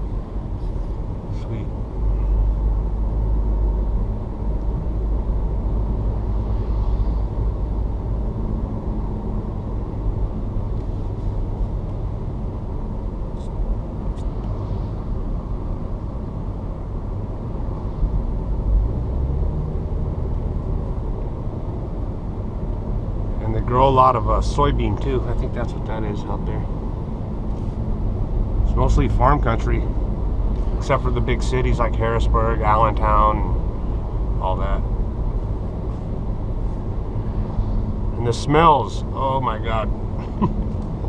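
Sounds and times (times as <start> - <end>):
car road noise: 0.0 - 41.0.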